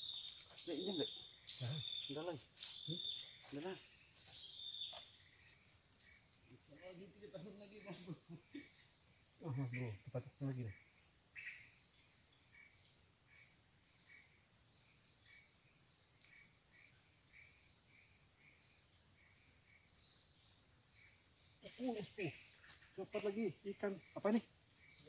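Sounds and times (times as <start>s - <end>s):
insect chorus shrill: 0.0s - 25.0s
short insect chirps: 0.0s - 25.0s.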